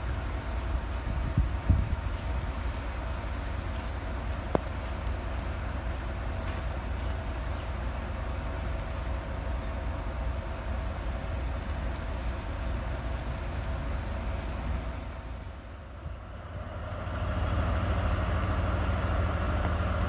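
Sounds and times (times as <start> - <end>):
locomotive idling rumble: 0.0 - 20.0.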